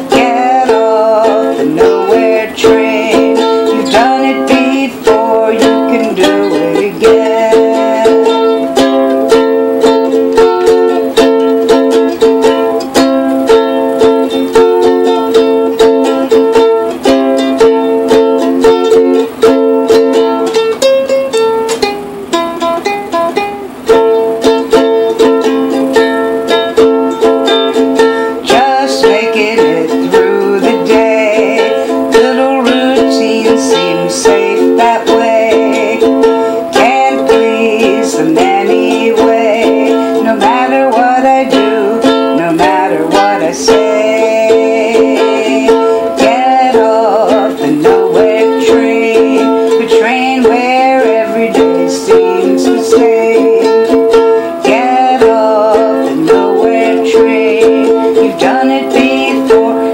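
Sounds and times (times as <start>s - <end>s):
strummed acoustic string instrument: 0.0s - 59.9s.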